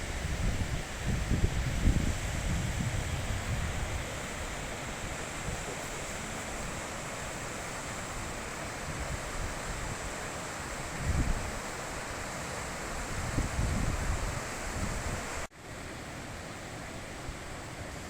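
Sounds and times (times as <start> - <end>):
mountain river rushing: 0.0 - 18.0.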